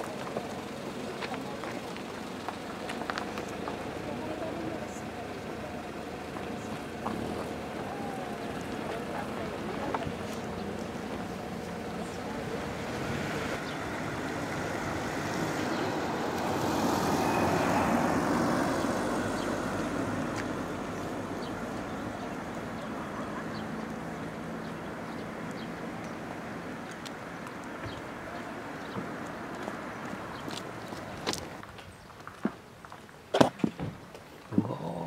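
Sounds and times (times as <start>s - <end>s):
road vehicle passing by: 0.0s - 32.3s.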